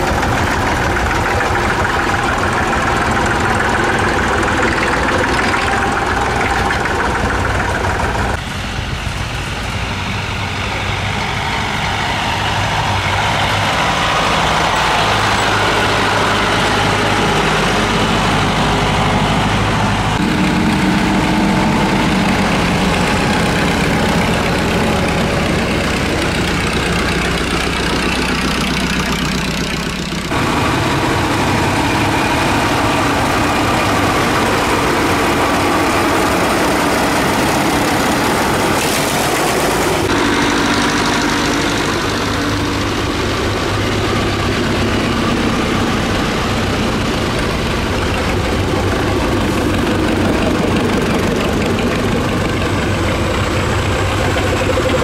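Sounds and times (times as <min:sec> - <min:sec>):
tractor engines passing: 0:00.0 - 0:55.0.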